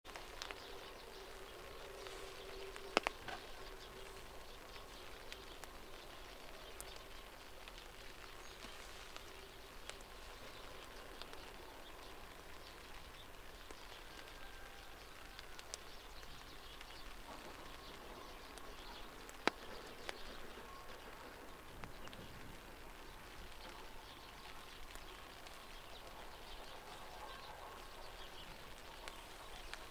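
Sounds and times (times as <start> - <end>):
small ticks: 0.1 - 29.9
steady hiss: 0.1 - 29.9.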